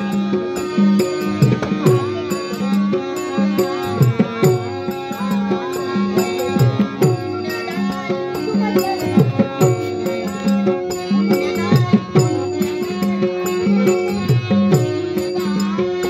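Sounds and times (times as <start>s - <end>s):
harmonium holding notes: 0.0s - 16.0s.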